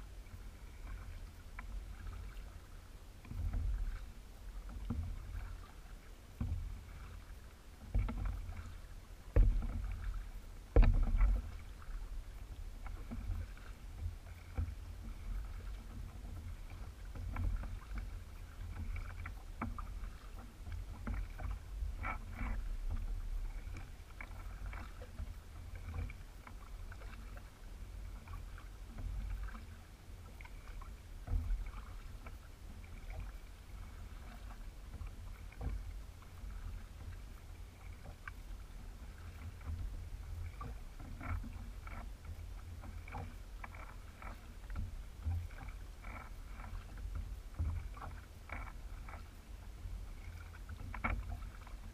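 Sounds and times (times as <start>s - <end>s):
paddle splashes: 0.0s - 51.9s.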